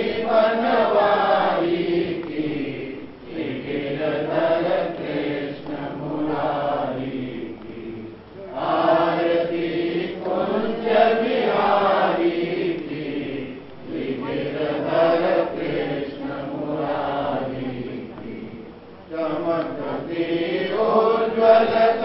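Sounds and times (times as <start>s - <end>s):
voices chanting together: 0.0s - 22.0s.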